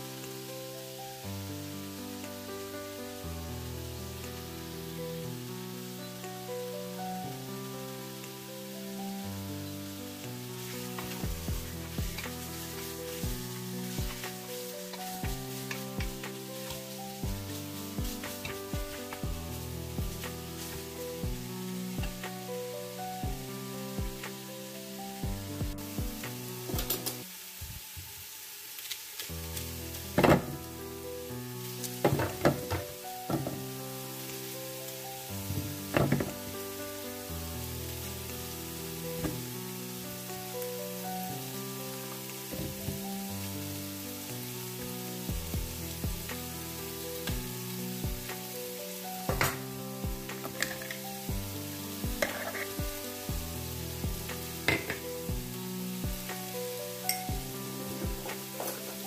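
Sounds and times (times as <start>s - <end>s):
background music: 0.0s - 27.4s, 29.3s - 59.0s
meat sizzling in a pot: 0.0s - 59.0s.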